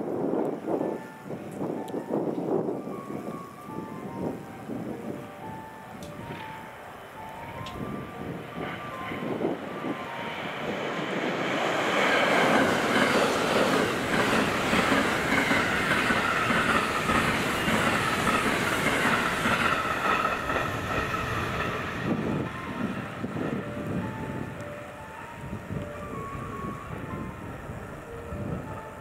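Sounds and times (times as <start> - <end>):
train wheels rushing on rails: 4.8 - 29.0.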